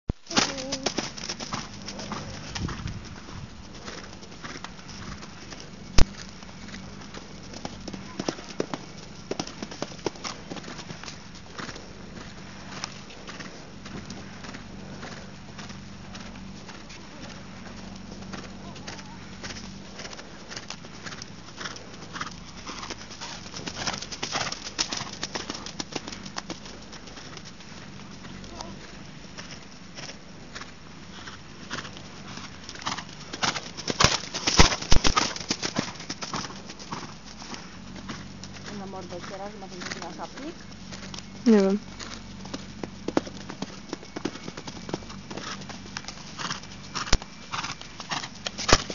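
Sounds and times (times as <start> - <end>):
hoofbeats on sand: 0.2 - 48.9.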